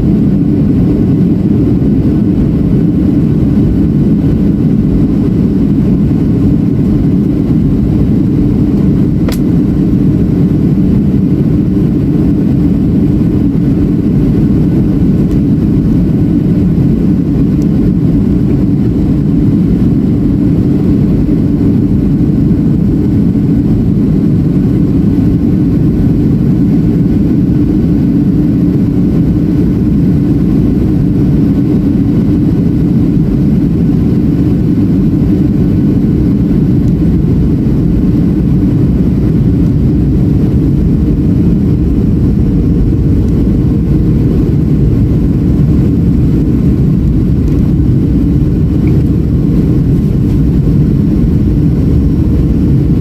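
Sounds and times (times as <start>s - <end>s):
jet engine and airflow rumble: 0.0s - 53.0s.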